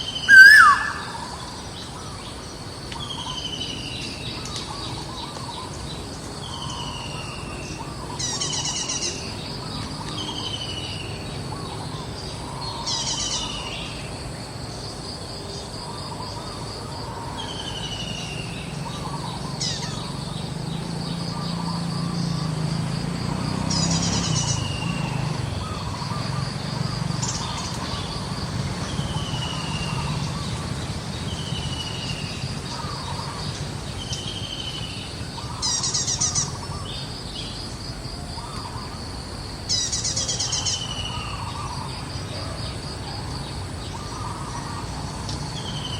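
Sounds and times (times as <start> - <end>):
birds whistling and trilling: 0.0 - 14.1, 15.9 - 22.7, 23.4 - 37.6, 39.7 - 45.9
insect drone: 0.0 - 45.9.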